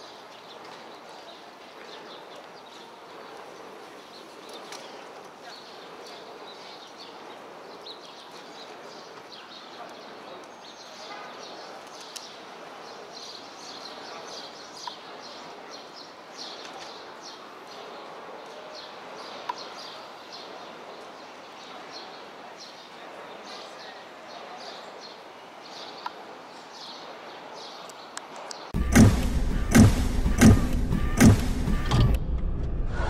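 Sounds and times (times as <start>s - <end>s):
small birds chirping: 0.0s - 28.8s
city street noise: 0.0s - 33.0s.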